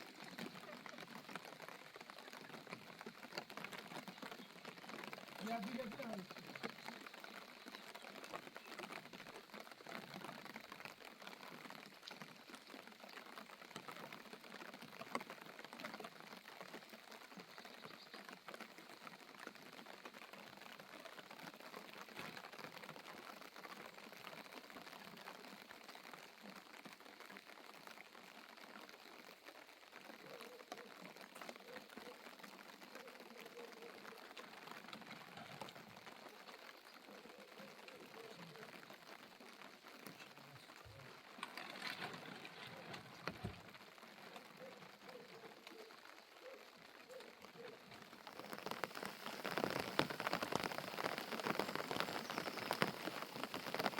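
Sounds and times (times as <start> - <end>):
light rain patter: 0.0 - 53.9.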